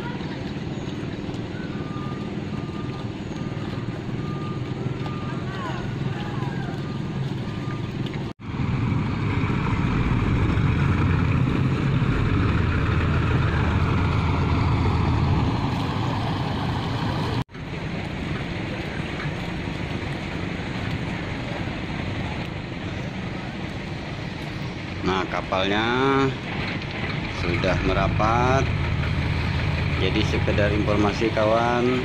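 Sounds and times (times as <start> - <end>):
boat engine running: 0.0 - 32.0
river water: 0.0 - 32.0.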